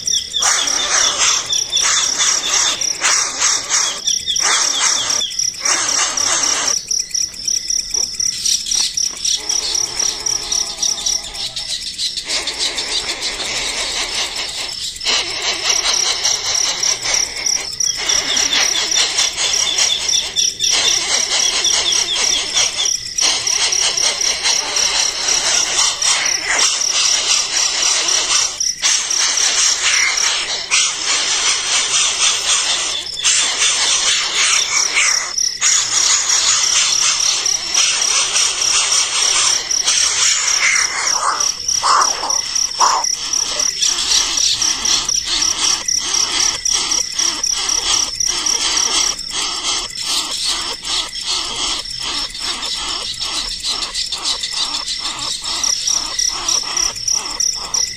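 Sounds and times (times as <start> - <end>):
high-pitched bird chirps: 0.0 - 7.0, 8.4 - 57.9
steady insect trill: 0.0 - 57.9.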